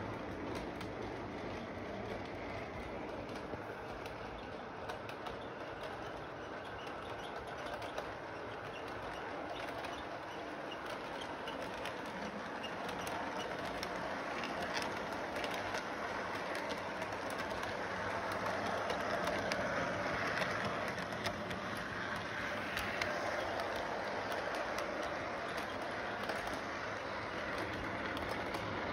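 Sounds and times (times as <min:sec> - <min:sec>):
model train whirring: 0:00.0 - 0:28.9
small clicks of train wheels: 0:00.0 - 0:28.9.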